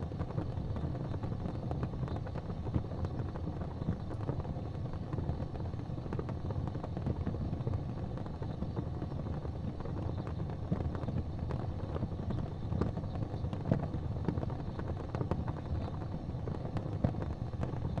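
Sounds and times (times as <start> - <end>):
fire crackling and popping: 0.0 - 18.0
fire roaring in fireplace: 0.0 - 18.0.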